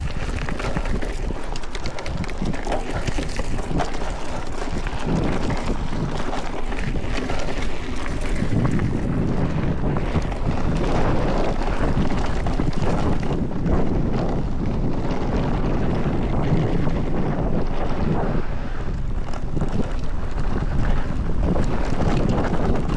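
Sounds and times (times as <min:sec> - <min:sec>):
bike tyres rumbling on dirt: 0:00.0 - 0:22.9
wind buffeting microphone: 0:00.0 - 0:22.9.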